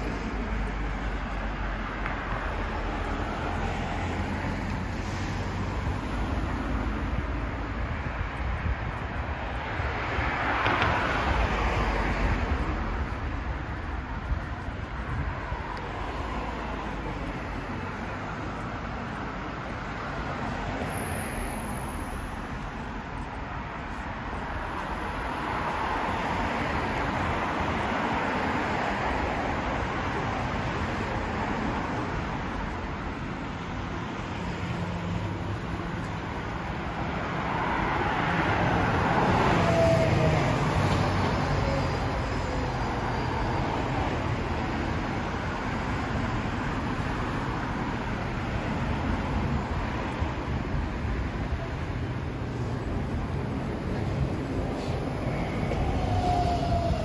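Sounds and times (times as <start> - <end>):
road traffic noise: 0.0 - 57.0
vehicles passing: 0.0 - 57.0.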